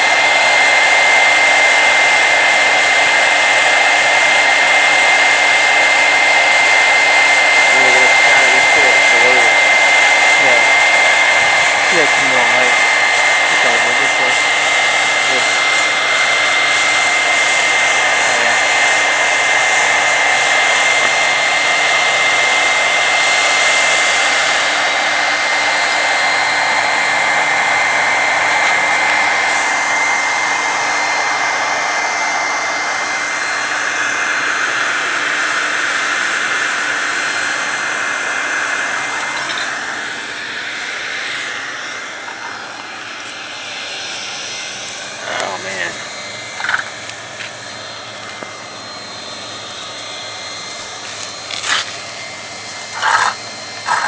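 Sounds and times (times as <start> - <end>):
air blower whining: 0.0 - 54.0.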